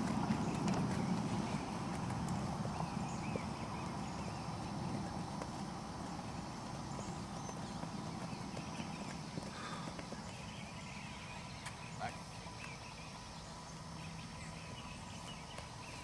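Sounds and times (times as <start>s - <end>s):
horse hoofbeats on grass: 0.0s - 16.0s.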